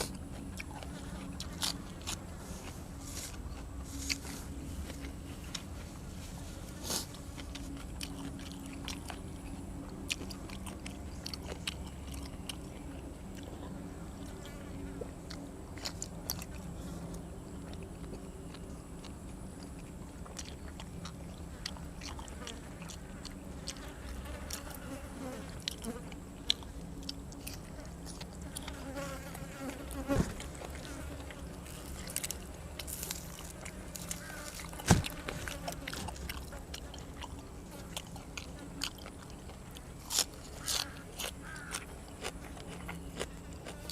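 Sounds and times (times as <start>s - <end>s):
low buzzing hum: 0.0s - 43.9s
person chewing and crunching: 0.0s - 43.9s.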